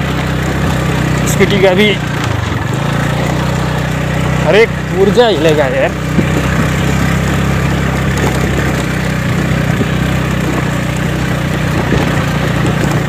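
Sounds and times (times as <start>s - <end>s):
scooter knocking over bumps: 0.0s - 3.7s, 6.0s - 13.0s
scooter engine running: 0.0s - 13.0s.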